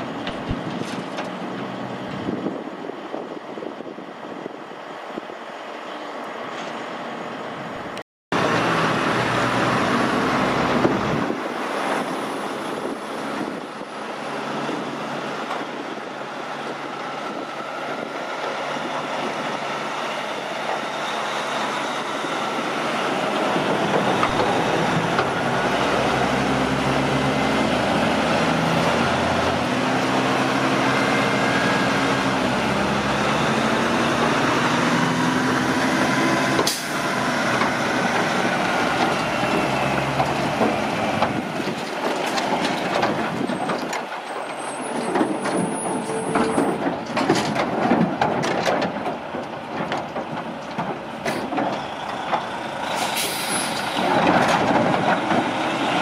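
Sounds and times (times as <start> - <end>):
truck diesel engine running: 7.3 - 56.0.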